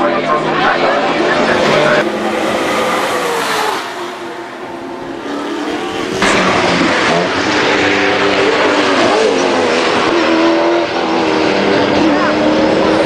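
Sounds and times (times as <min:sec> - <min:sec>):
race cars passing: 0:00.0 - 0:13.0.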